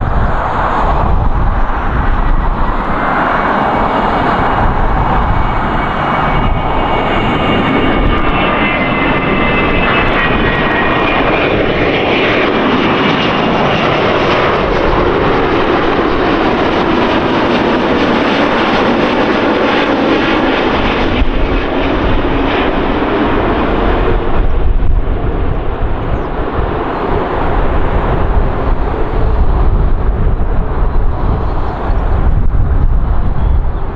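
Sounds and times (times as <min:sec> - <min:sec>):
jet airliner engines: 0:00.0 - 0:33.9.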